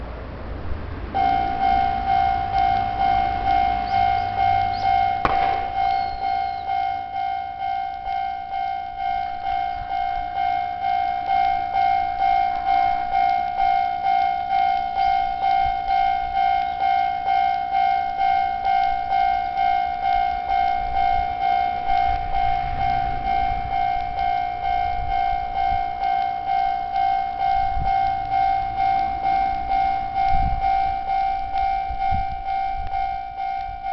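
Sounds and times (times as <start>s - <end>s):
level-crossing warning bell: 1.0s - 33.9s.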